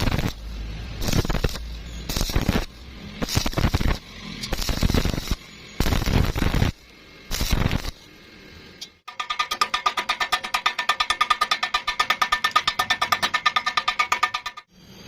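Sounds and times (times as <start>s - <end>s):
welding arc crackling: 0.0s - 14.7s.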